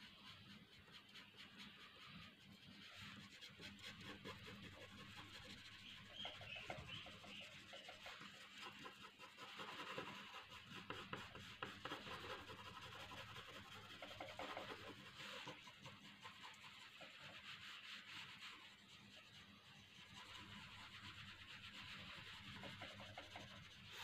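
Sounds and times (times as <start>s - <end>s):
pencil scratching on paper: 0.0s - 24.0s.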